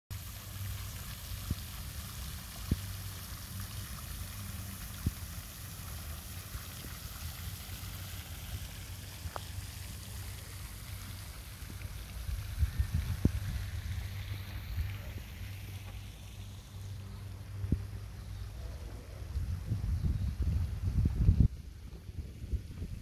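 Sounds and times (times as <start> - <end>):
fountain spraying and splashing: 0.1 - 23.0.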